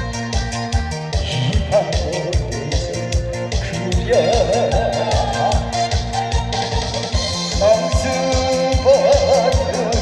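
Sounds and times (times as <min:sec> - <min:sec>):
trot backing music: 0:00.0 - 0:10.0.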